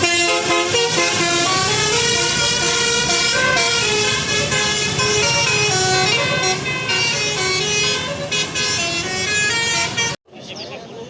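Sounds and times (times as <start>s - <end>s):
musical air horn melody: 0.0s - 10.2s.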